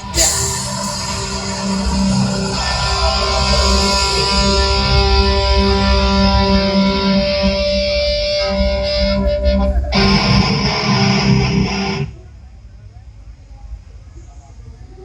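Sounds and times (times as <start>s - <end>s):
rock music with distorted guitar: 0.0s - 12.1s.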